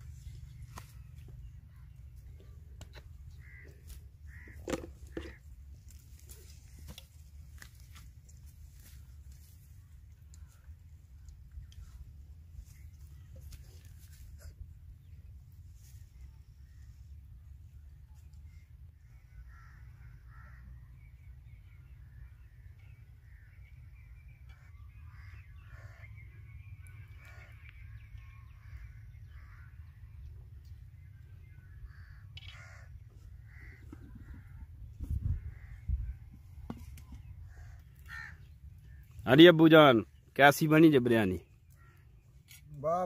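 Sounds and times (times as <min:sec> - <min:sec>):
birds calling: 0:00.0 - 0:17.2, 0:18.2 - 0:43.0.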